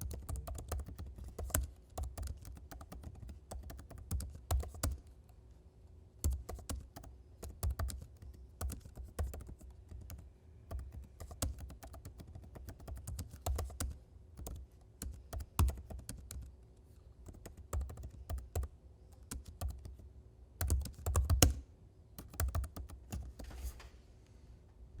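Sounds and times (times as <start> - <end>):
typing on computer keyboard: 0.0 - 5.1, 6.2 - 16.5, 17.2 - 20.0, 20.6 - 21.6, 22.2 - 23.4.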